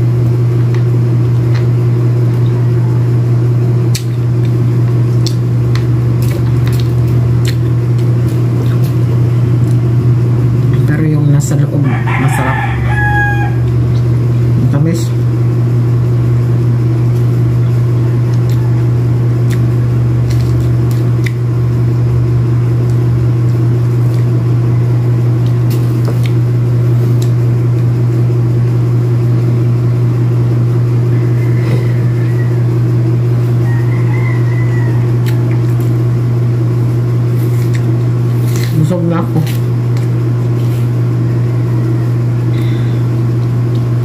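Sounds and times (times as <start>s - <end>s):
loud steady low hum: 0.0s - 44.0s.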